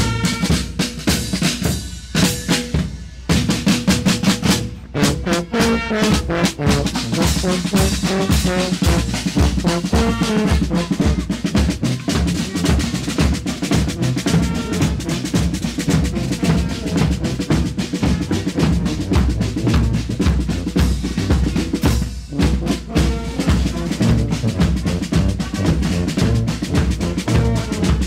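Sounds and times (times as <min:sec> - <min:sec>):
tubas playing bass line: 0:00.0 - 0:01.4, 0:04.4 - 0:28.0
bass drum and snare drum beat: 0:00.0 - 0:28.0
brass band playing: 0:00.0 - 0:28.0.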